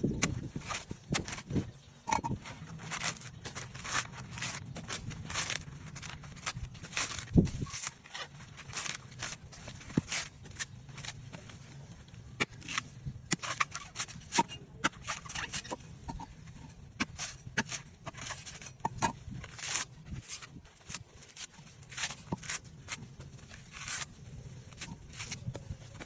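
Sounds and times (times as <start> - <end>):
coconut husk cracking and tearing: 2.4 - 26.0.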